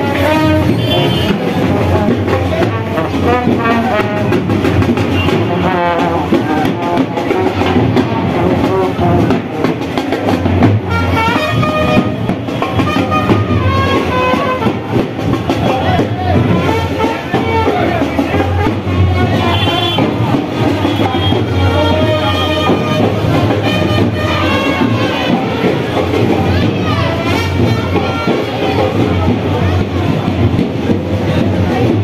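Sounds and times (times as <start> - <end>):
trumpets playing melody: 0.0 - 30.4
bass drum beats: 0.0 - 32.0
large brass horns: 0.0 - 32.0
side drum beats: 0.0 - 32.0.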